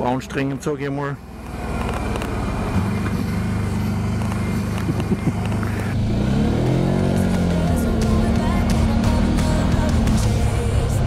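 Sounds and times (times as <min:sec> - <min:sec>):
engine running and accelerating: 0:00.0 - 0:11.0.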